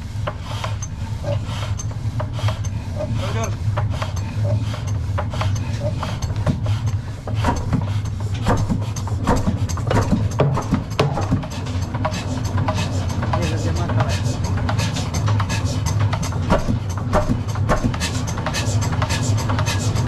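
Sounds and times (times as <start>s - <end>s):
engine clicks and knocks: 0.0s - 20.0s.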